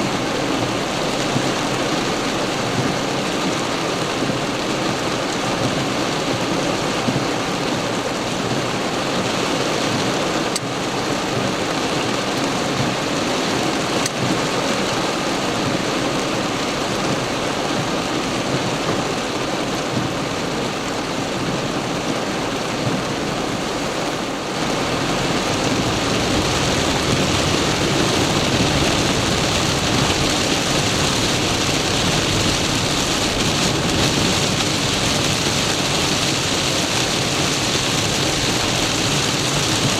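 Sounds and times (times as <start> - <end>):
heavy rain on car: 0.0 - 39.9
tyres hissing on wet road: 0.0 - 39.9.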